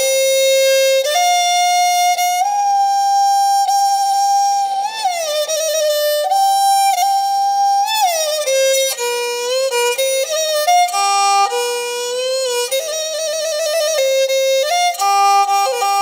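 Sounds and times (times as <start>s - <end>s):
bowed string instrument melody: 0.0s - 16.0s.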